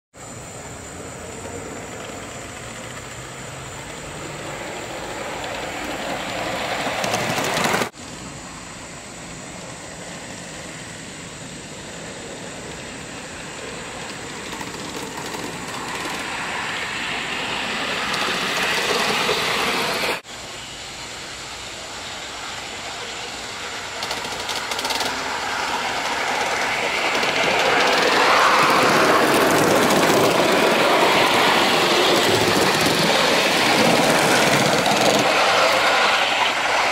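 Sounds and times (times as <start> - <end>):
model steam train running on track: 0.2 - 36.9.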